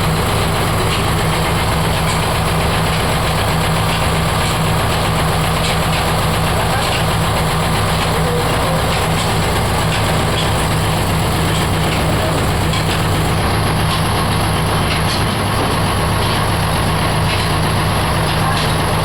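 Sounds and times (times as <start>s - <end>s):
oil expeller machine humming: 0.0s - 19.0s.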